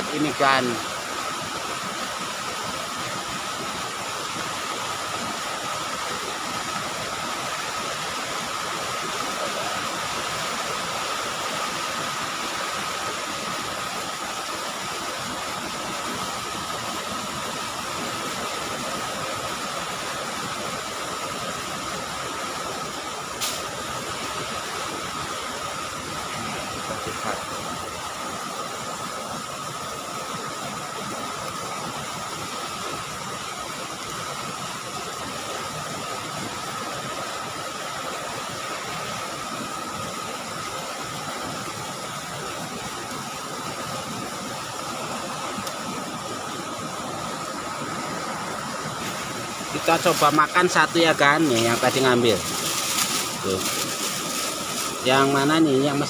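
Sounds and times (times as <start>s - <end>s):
rain hissing: 0.0s - 56.0s
rushing water: 0.0s - 56.0s.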